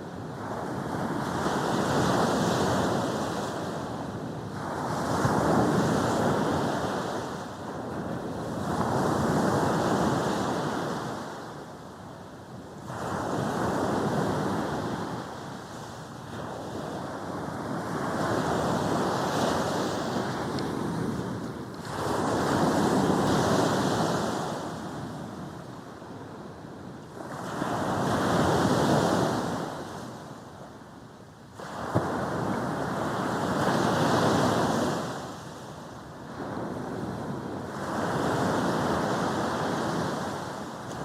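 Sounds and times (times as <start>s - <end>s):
sea waves breaking on beach: 0.2s - 11.6s, 12.8s - 26.4s, 31.6s - 41.0s.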